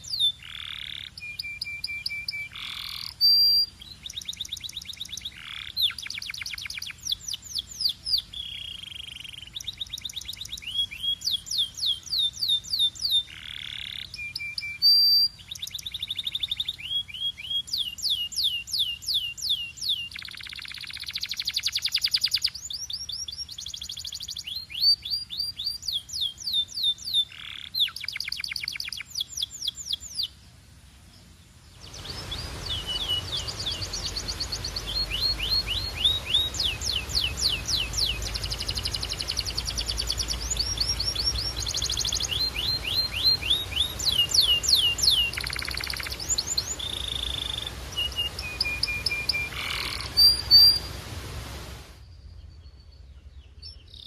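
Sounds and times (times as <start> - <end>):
canary singing trills: 0.0 - 30.4, 31.8 - 51.0
steady background hiss: 0.0 - 54.0.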